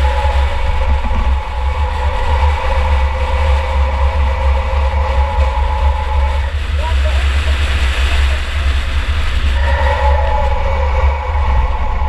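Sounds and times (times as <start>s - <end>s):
car engine rumbling with whine: 0.0s - 12.0s.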